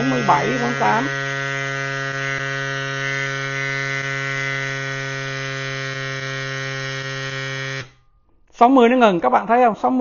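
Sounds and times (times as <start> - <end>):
electric bike pump motor drone: 0.0 - 8.0.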